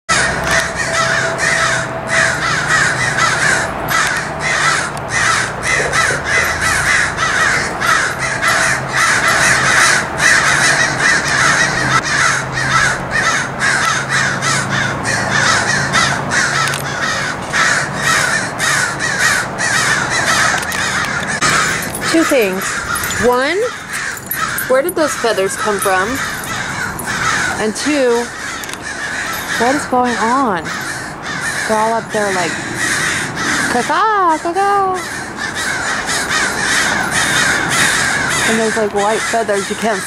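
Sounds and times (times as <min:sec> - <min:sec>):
crows cawing: 0:00.1 - 0:40.0.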